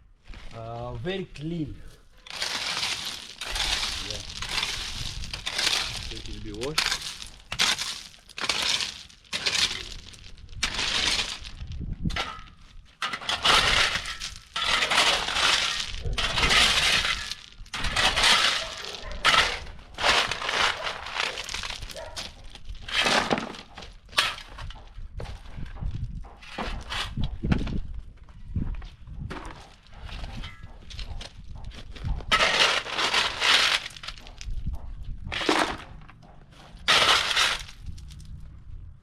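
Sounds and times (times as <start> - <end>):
stone ballast clattering and crunching: 2.2 - 27.9, 29.1 - 38.5.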